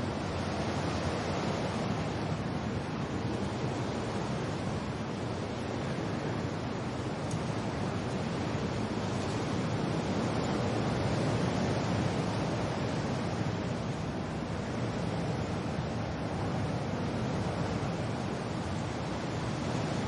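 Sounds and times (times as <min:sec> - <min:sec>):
steady rain: 0:00.0 - 0:20.0
wind: 0:00.0 - 0:20.0.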